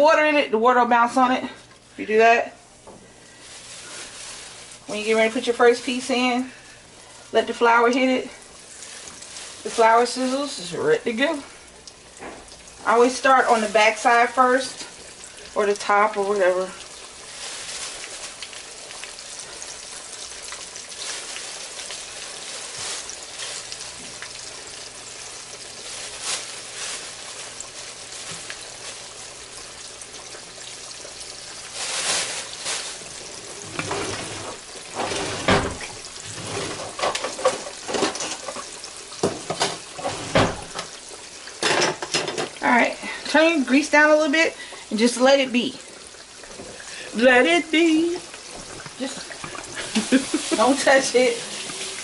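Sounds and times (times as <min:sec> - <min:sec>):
chicken frying in hot oil: 0:00.0 - 0:52.0
oil crackling and popping: 0:03.2 - 0:52.0.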